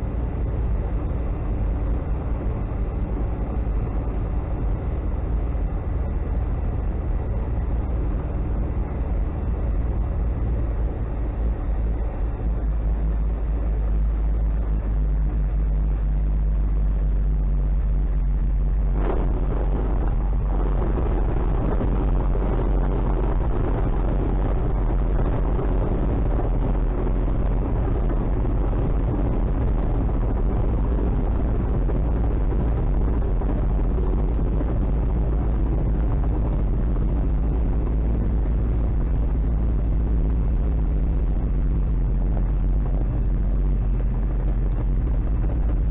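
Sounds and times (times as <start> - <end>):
light aircraft engine and propeller: 0.0 - 45.9.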